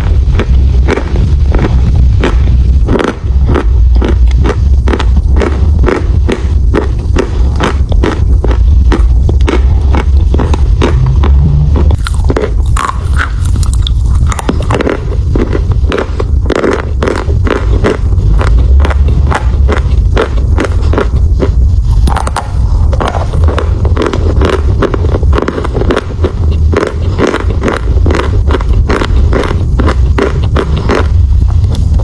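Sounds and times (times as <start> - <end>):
steady low rumble: 0.0 - 32.0
chalk crunching while chewing: 0.1 - 32.0.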